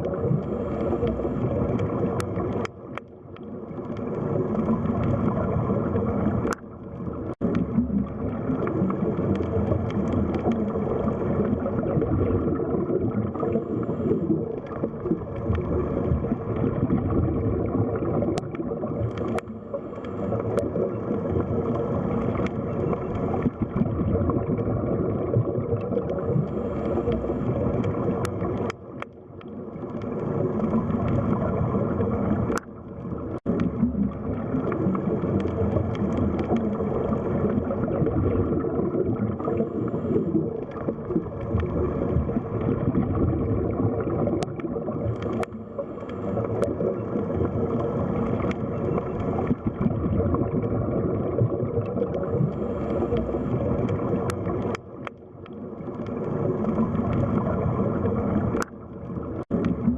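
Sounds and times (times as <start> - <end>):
faint underwater clicks: 0.0 - 59.9
underwater rumbling and gurgling: 0.0 - 59.9.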